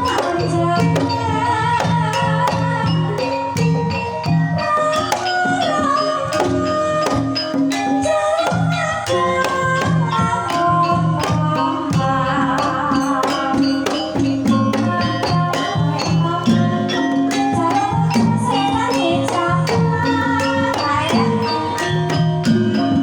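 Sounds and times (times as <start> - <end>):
percussion ensemble with drum: 0.0 - 23.0.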